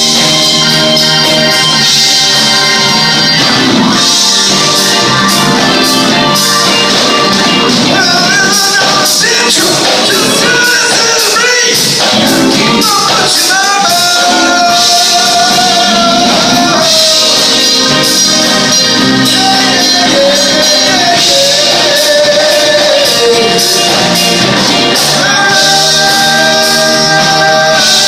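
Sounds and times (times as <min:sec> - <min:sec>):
live rock band playing: 0:00.0 - 0:28.0
person singing: 0:00.0 - 0:28.0.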